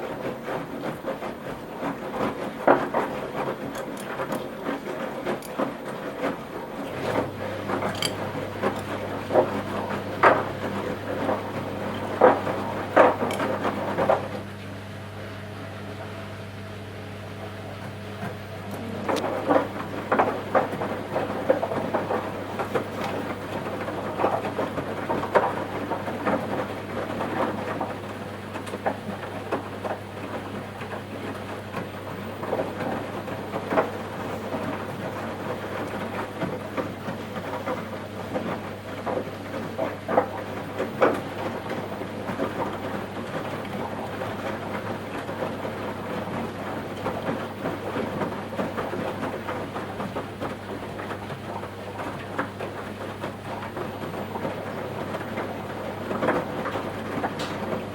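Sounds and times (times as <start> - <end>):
laundry sloshing in drum: 0.0 - 57.9
washing machine motor hum: 0.0 - 57.9.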